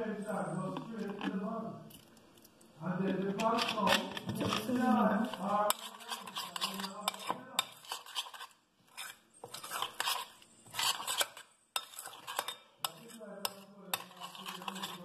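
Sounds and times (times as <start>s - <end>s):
spoon scraping in metal bowl: 0.0s - 2.0s, 3.0s - 15.0s.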